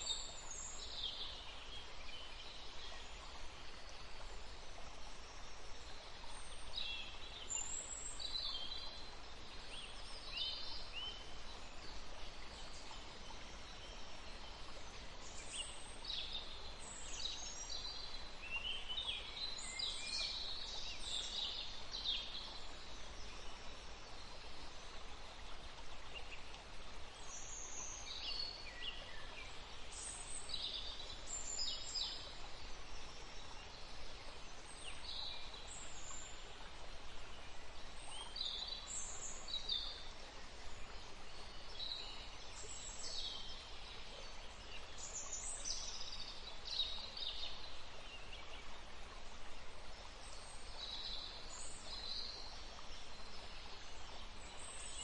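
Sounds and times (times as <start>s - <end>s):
songbirds chirping: 0.0s - 55.0s
stream running: 0.0s - 55.0s.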